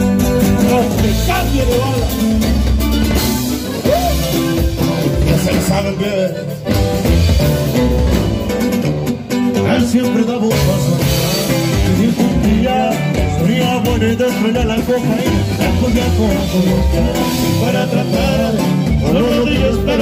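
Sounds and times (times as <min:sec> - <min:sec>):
man singing: 0:00.0 - 0:02.5, 0:03.6 - 0:07.0, 0:09.4 - 0:20.0
accordion: 0:00.0 - 0:20.0
guitar: 0:00.0 - 0:20.0.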